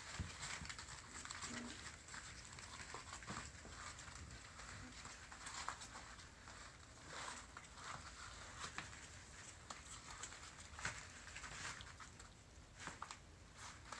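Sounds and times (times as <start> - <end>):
puppies rustling in wood shavings: 0.0 - 13.9.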